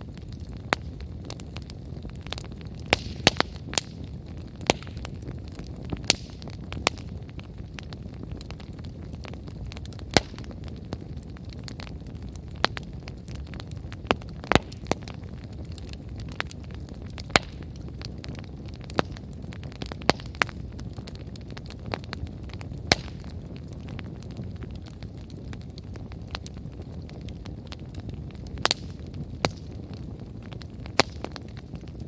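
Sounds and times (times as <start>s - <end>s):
low noise of flames: 0.0s - 32.0s
wood crackling and popping: 0.0s - 32.0s.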